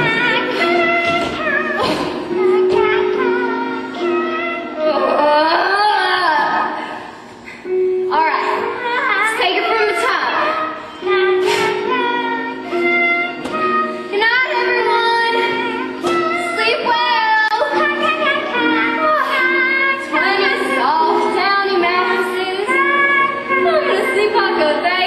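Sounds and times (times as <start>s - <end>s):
child singing a lullaby: 0.0s - 6.8s, 7.7s - 25.0s
held accompaniment notes: 0.0s - 25.0s.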